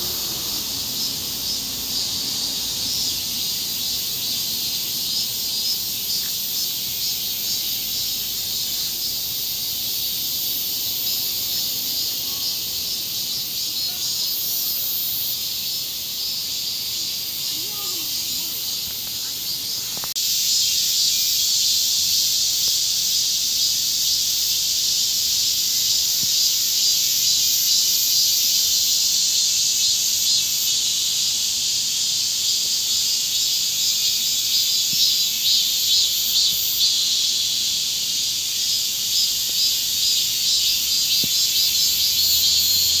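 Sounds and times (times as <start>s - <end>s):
cicadas buzzing: 0.0s - 43.0s.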